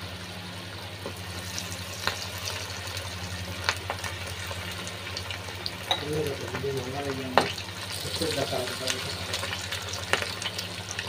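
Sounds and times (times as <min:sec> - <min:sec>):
low steady hum: 0:00.0 - 0:11.0
meat sizzling in hot oil: 0:01.0 - 0:11.0
oil crackles and pops: 0:01.0 - 0:11.0.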